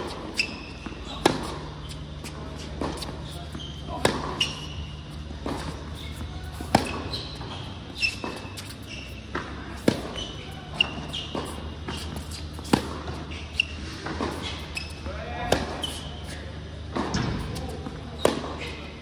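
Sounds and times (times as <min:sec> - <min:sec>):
ball bouncing on hard court: 0:00.0 - 0:18.8
racket striking ball: 0:00.0 - 0:18.8
shoes squeaking on court: 0:00.0 - 0:19.0.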